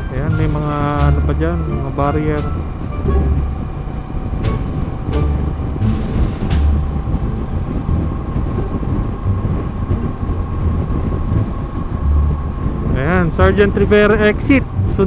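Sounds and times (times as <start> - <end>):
heavy wind noise: 0.0 - 15.0
road rumble: 0.0 - 15.0.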